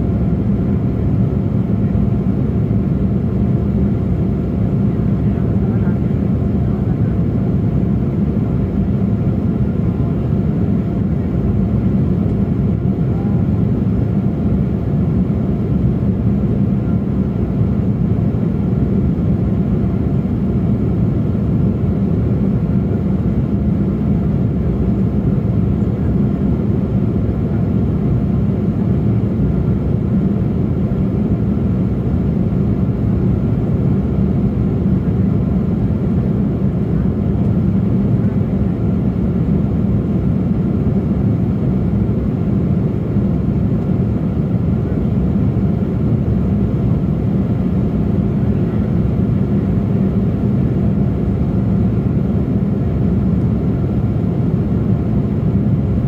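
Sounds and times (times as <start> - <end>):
jet engines and airflow rushing: 0.0 - 56.0.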